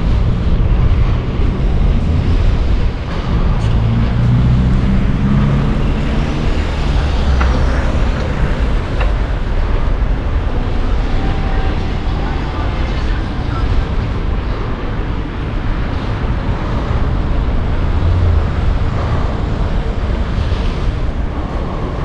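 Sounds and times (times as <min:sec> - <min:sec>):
engine hum: 0:00.0 - 0:22.0
passing car traffic: 0:00.0 - 0:22.0
wind rumble on microphone: 0:00.0 - 0:22.0.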